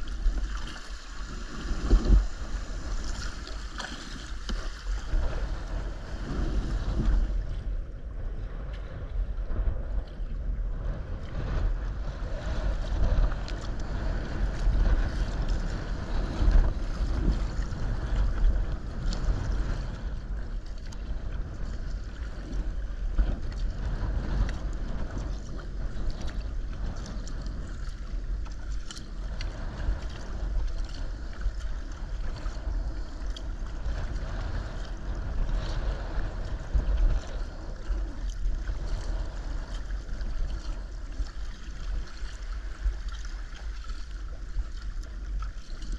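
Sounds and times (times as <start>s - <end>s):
paddle splashing in water: 0.0s - 7.7s, 11.9s - 45.9s
water washing along hull: 0.0s - 45.9s
wind buffeting microphone: 0.0s - 45.9s.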